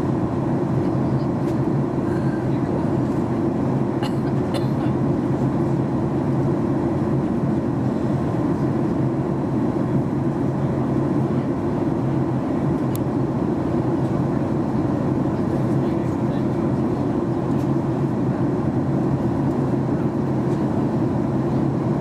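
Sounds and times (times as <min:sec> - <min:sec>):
airplane cabin engine rush: 0:00.0 - 0:22.0.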